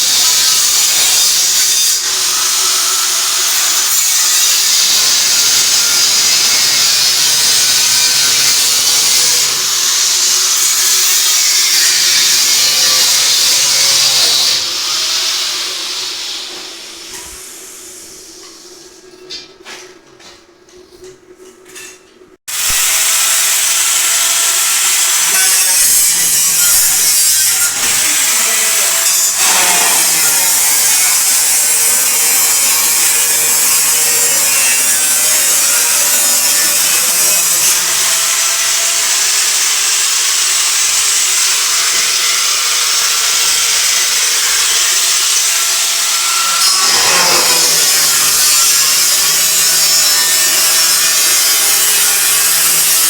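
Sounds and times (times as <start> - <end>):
angle grinder cutting metal: 0.0 - 18.4, 22.5 - 53.0.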